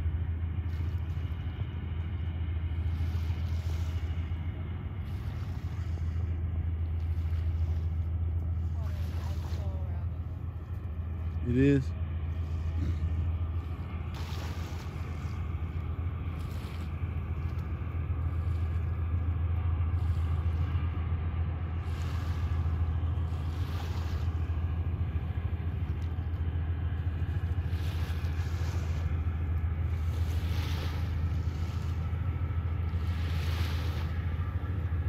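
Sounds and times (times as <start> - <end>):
boat engines droning: 0.0 - 35.0
small waves washing at shore: 0.0 - 35.0.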